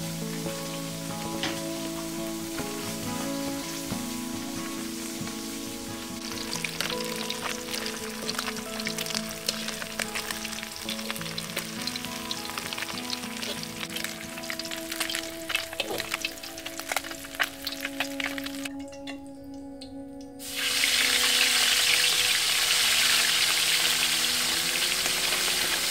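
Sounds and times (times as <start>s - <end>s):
fish sizzling in hot oil: 0.0s - 18.7s, 20.4s - 25.9s.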